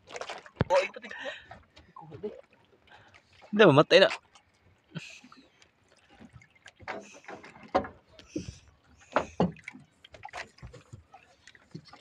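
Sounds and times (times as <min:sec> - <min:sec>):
water splashes: 0:00.0 - 0:12.0.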